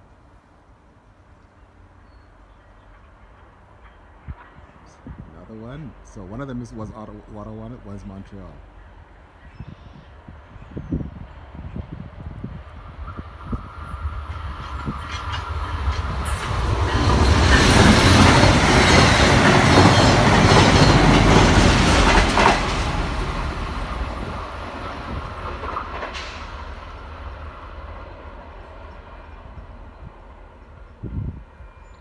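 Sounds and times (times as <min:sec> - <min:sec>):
train rumbling past: 0:00.0 - 0:32.0.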